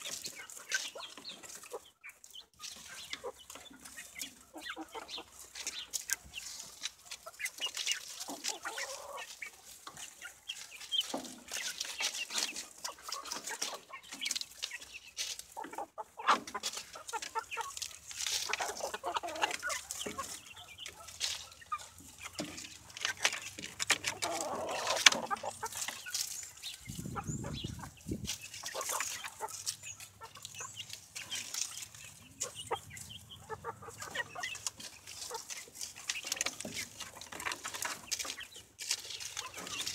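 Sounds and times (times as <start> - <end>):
chickens pecking and scratching: 0.0 - 39.9
hens clucking: 0.0 - 39.9.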